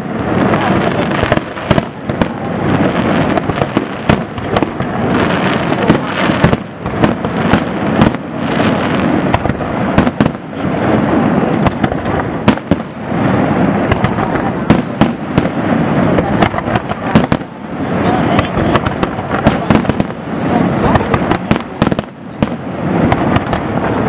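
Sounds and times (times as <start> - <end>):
overlapping explosions: 0.0 - 24.0.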